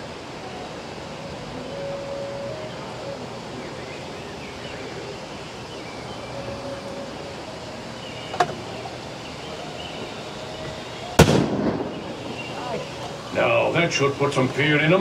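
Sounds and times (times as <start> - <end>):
open-air background noise: 0.0 - 15.0.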